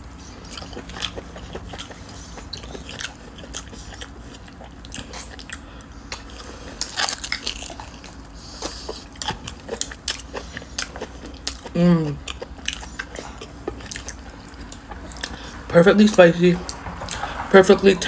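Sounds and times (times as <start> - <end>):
wet chewing and lip-smacking: 0.0 - 17.8.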